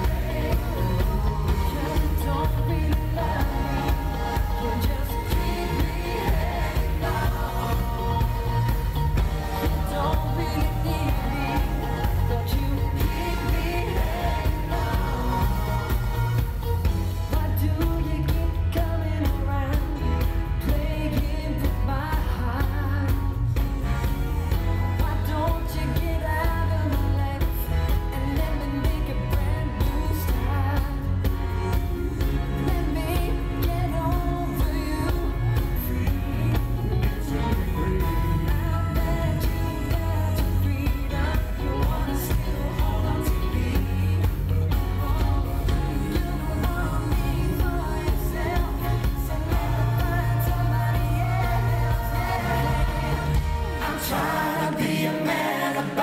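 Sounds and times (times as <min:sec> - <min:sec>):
backing band with drums: 0:00.0 - 0:55.5
male group singing in harmony: 0:00.0 - 0:56.0.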